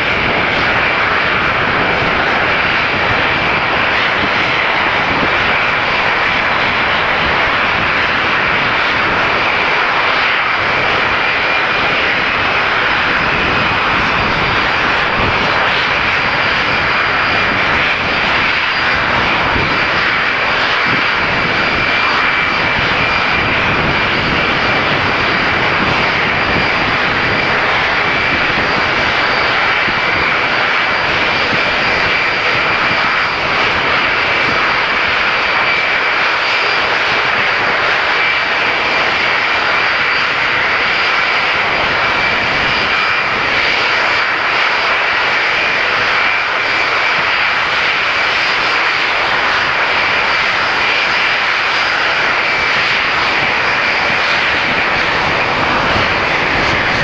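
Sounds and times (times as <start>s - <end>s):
jet engines high whine: 0.0s - 57.0s.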